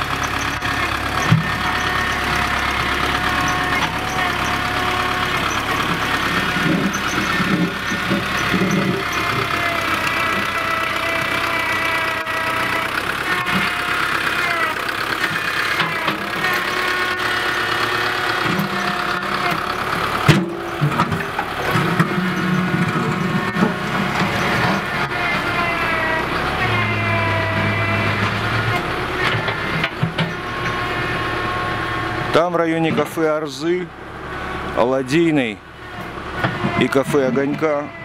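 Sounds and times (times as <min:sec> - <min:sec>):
heavy machinery engine idling: 0:00.0 - 0:38.0.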